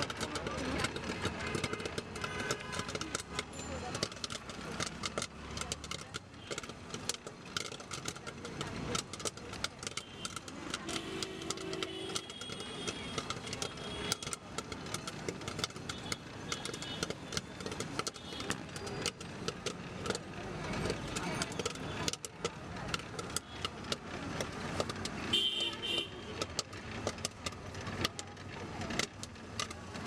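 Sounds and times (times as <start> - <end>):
popcorn popping in metal pot: 0.0 - 30.0
street traffic: 0.0 - 30.0.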